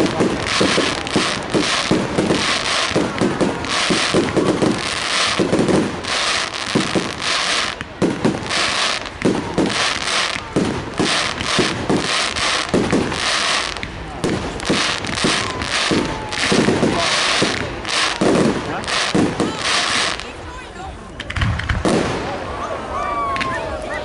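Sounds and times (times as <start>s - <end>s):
crackling fizz of fireworks: 0.0s - 24.0s
fireworks bangs: 0.0s - 24.0s.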